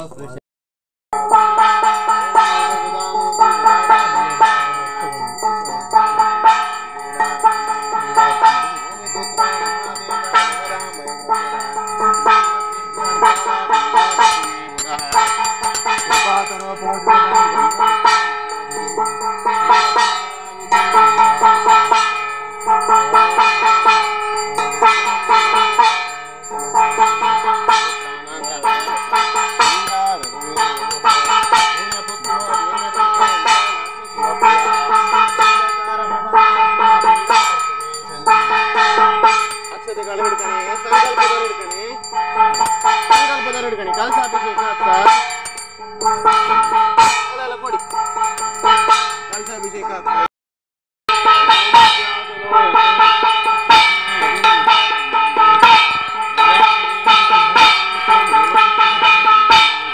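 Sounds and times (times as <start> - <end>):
percussion strikes: 1.1 - 50.3, 51.1 - 59.9
wavering melody: 1.2 - 50.3, 51.1 - 59.9.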